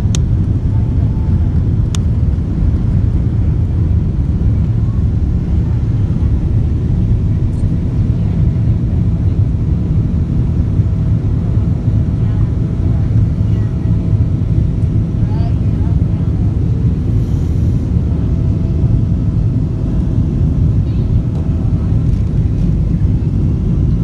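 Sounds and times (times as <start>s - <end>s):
airliner engine rumble: 0.0s - 24.0s
faint steady hum: 0.0s - 24.0s.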